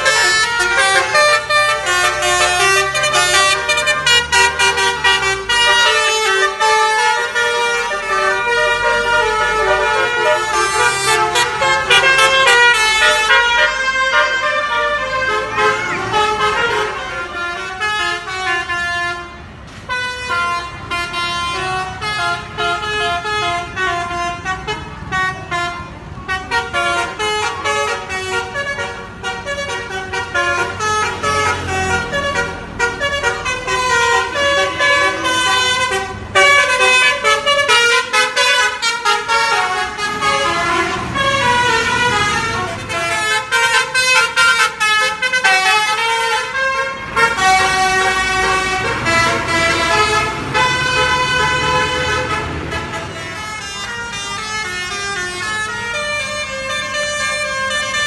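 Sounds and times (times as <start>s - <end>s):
bus melody horn playing tunes: 0.0s - 58.0s.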